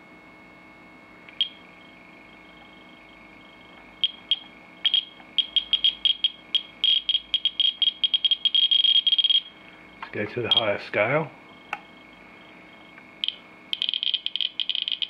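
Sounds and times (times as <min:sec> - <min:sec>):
geiger counter chirping: 0:01.3 - 0:09.7, 0:10.5 - 0:10.8, 0:11.5 - 0:15.0.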